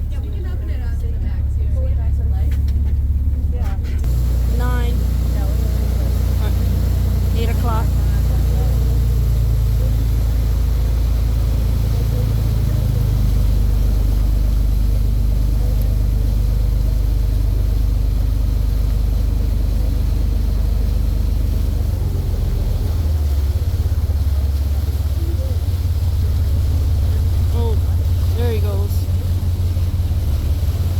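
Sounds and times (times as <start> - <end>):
boat engines droning: 0.0 - 30.9.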